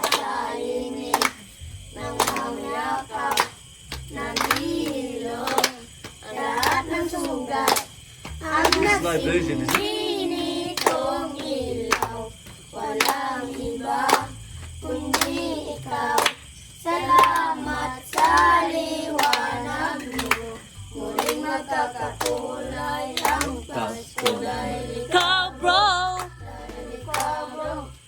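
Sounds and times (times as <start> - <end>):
children singing a carol: 0.0 - 28.0.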